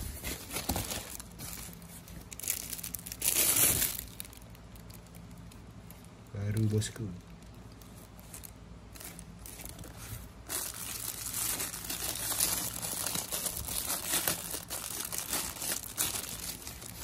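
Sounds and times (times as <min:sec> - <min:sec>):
plastic bag and foam crinkling: 0:00.0 - 0:17.0.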